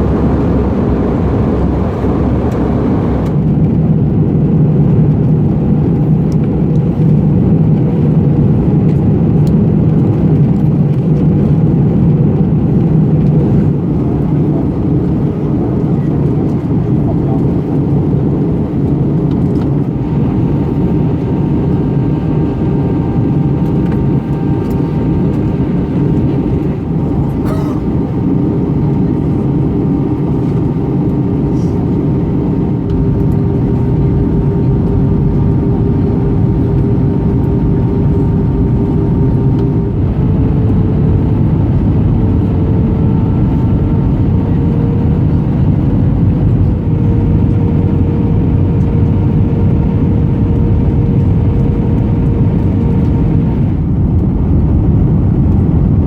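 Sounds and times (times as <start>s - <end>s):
jet engines humming: 0.0s - 4.0s, 11.9s - 56.0s
airflow rushing in cabin: 0.0s - 56.0s.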